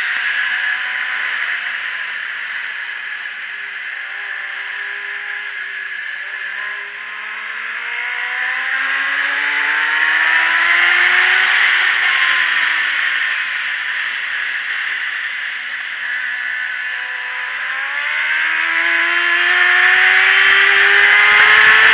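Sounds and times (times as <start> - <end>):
motorcycle engine accelerating: 0.0 - 21.9.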